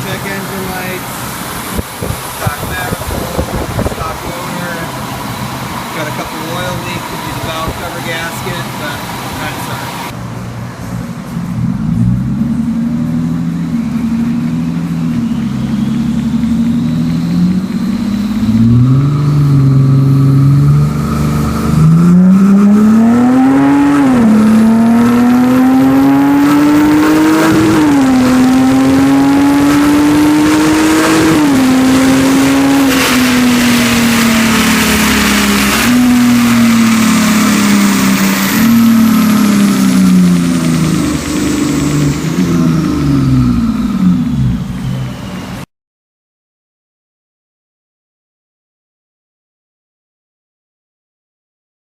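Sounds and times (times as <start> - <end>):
car engine accelerating hard: 0.0 - 45.7.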